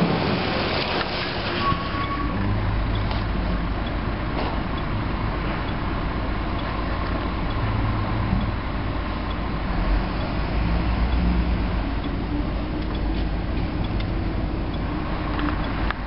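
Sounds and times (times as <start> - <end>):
vehicle engines idling: 0.0 - 16.0.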